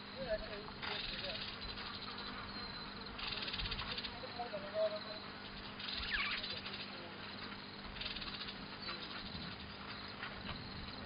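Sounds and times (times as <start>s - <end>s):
rapid pulsed chirping: 0.0s - 11.0s.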